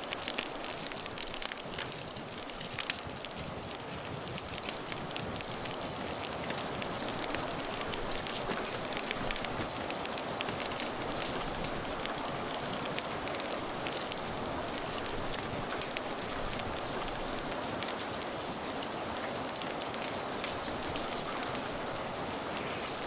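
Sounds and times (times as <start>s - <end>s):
rain hissing: 0.0s - 23.0s
wood fire crackling and popping: 0.0s - 23.0s.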